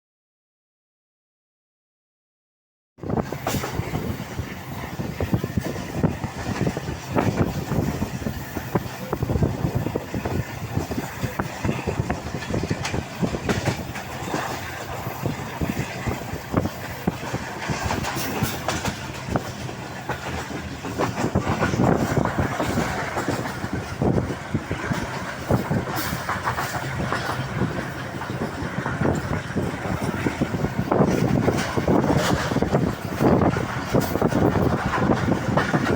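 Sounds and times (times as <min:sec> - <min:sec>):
train running rumble: 0:03.0 - 0:35.9
wheels clacking on rails: 0:03.0 - 0:35.9.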